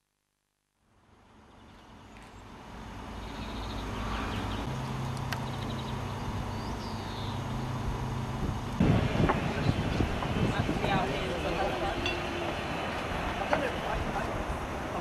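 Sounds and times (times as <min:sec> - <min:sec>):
steady low hum: 0:00.8 - 0:15.0.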